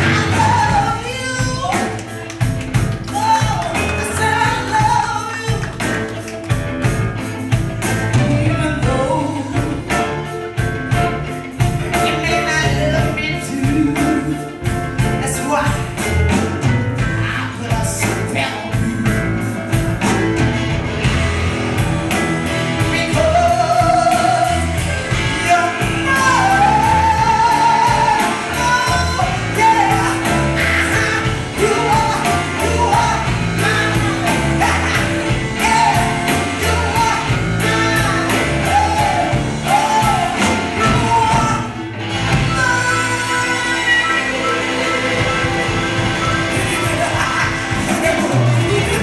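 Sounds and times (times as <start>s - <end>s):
blues band playing: 0.0s - 49.0s.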